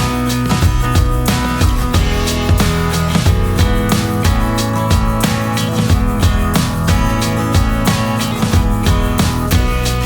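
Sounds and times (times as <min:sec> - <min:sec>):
guitar and drums music: 0:00.0 - 0:10.0.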